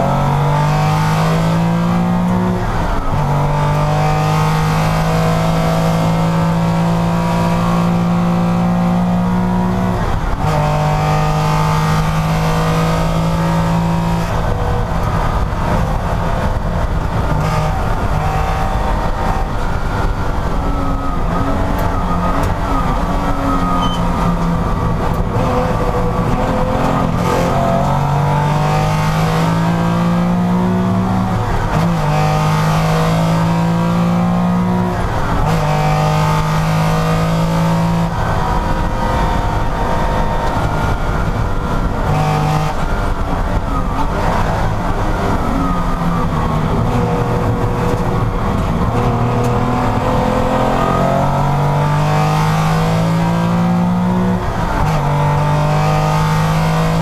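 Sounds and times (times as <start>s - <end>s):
racing car engine at high revs: 0.0s - 57.0s.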